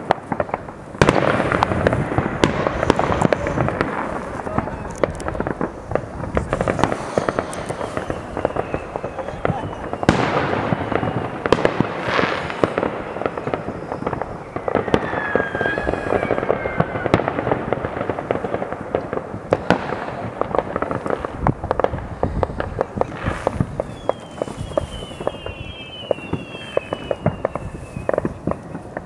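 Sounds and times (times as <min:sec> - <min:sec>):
distant firework bangs and crackles: 0:00.0 - 0:29.0
firework whistles: 0:00.0 - 0:29.0.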